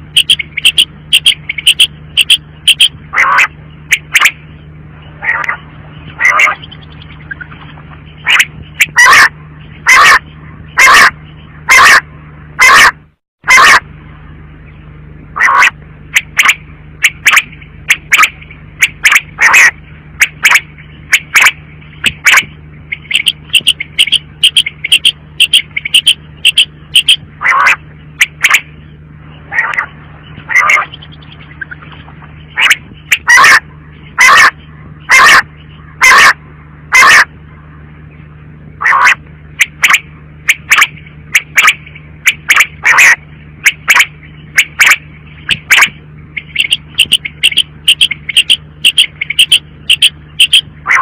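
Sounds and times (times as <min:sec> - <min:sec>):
quail calling: 0:00.0 - 0:13.9, 0:15.4 - 0:37.4, 0:38.8 - 0:51.0
low steady hum: 0:00.0 - 0:51.0.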